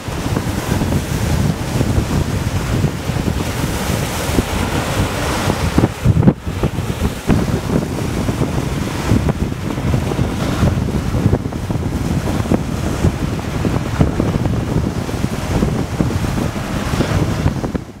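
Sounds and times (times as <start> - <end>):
waves breaking on shore: 0.0 - 18.0
wind buffeting the microphone: 0.0 - 18.0.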